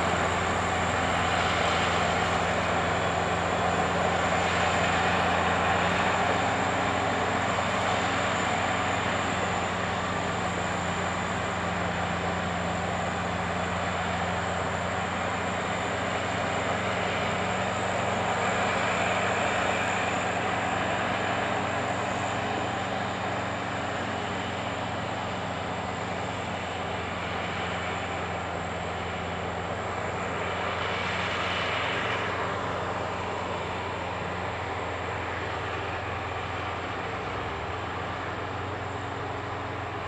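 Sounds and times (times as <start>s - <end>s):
diesel machinery running: 0.0s - 40.0s.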